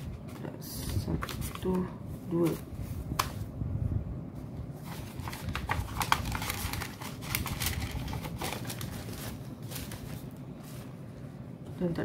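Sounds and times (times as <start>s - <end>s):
paper rustling and crinkling: 0.0s - 3.5s, 4.8s - 11.2s.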